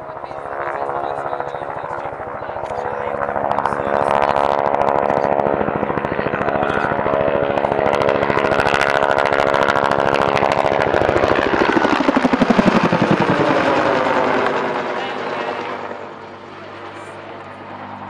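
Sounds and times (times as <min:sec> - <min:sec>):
helicopter engine whine: 0:00.0 - 0:18.0
helicopter rotor blade slap: 0:00.0 - 0:18.0.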